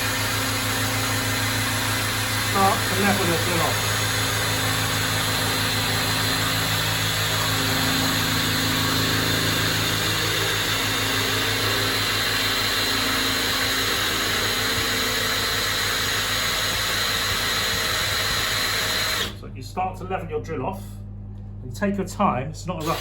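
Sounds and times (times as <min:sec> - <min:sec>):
drill bit grinding into tile: 0:00.0 - 0:19.4, 0:22.8 - 0:23.0.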